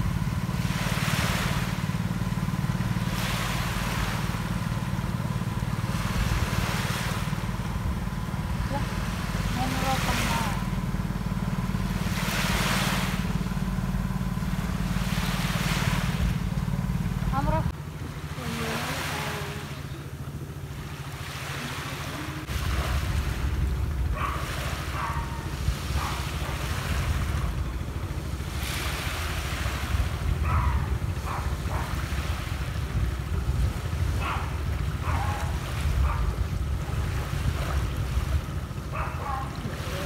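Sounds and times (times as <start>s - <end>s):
wind rumble on microphone: 0.0s - 18.2s, 21.6s - 40.0s
small waves washing onto beach: 0.0s - 40.0s.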